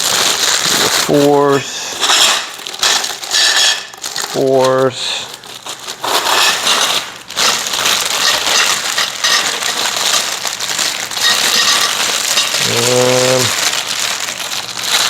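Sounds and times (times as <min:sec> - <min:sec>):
plastic parts rustling and clicking: 0:01.9 - 0:15.0.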